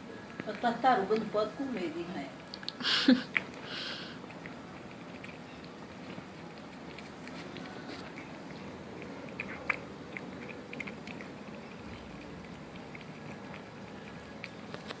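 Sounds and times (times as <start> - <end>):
pet chewing wetly: 0.0 - 15.0.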